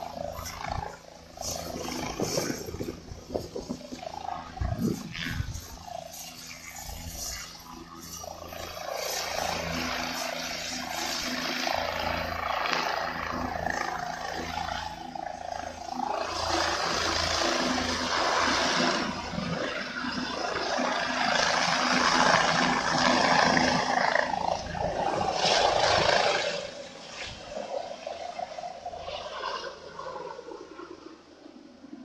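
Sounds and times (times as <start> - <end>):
helicopter turbine rush: 0.0 - 32.0
pulsing helicopter rotor beat: 0.0 - 32.0.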